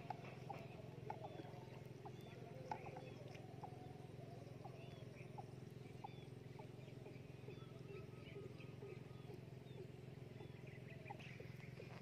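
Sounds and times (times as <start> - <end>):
small animals chirping: 0.0 - 12.0
steady low hum: 0.0 - 12.0.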